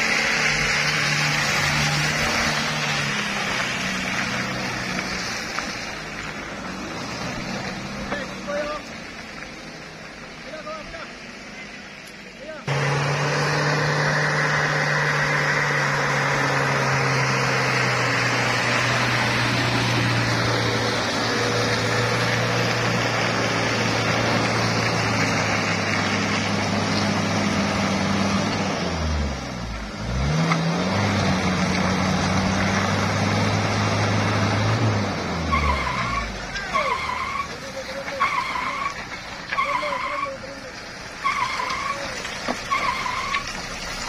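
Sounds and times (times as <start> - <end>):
pickup truck engine revving: 0.0 - 10.5, 12.6 - 44.0.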